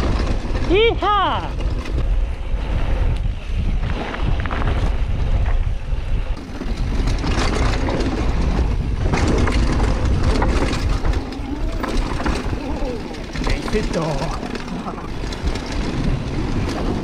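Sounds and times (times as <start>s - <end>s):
bike rattling and clicking: 0.0s - 17.0s
tyre noise: 0.0s - 17.0s
wind buffeting microphone: 0.0s - 17.0s.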